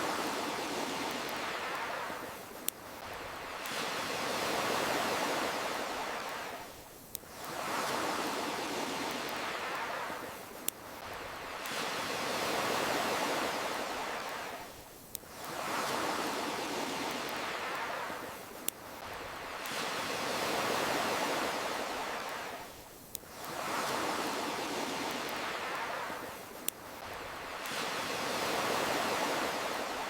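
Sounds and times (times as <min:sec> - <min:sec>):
ocean waves washing in: 0:00.0 - 0:30.0.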